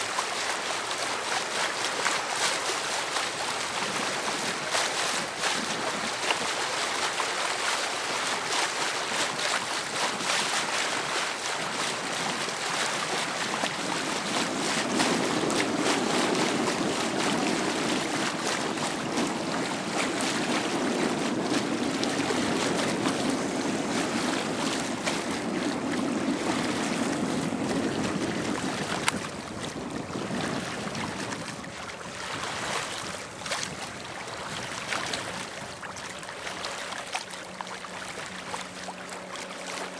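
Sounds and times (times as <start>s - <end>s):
water rushing past boat: 0.0s - 39.9s
wind: 0.0s - 39.9s.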